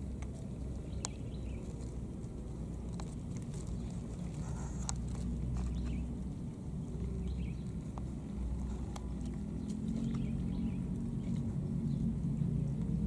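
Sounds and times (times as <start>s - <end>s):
faint clicks and rustles: 0.0s - 12.0s.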